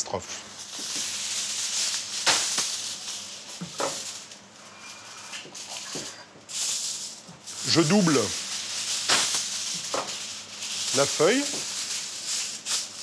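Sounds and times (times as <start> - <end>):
aluminium foil rustling and crinkling: 0.4 - 13.0.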